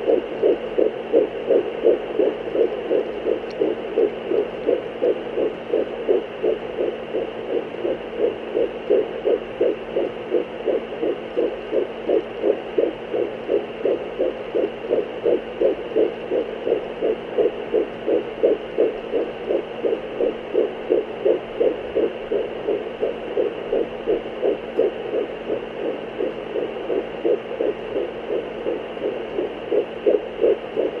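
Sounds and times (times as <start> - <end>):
fetal heartbeat whooshing beats: 0.0 - 31.0
steady device hum: 0.0 - 31.0.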